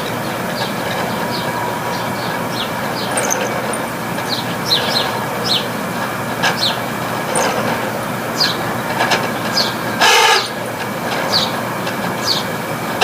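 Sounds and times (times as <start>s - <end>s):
air conditioner drone: 0.0s - 13.0s.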